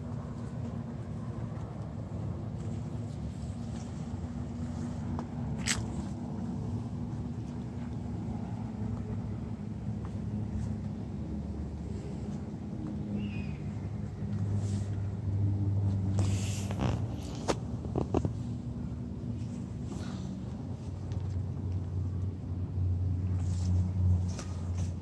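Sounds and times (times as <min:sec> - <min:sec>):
low mechanical hum and rumble: 0:00.0 - 0:25.0.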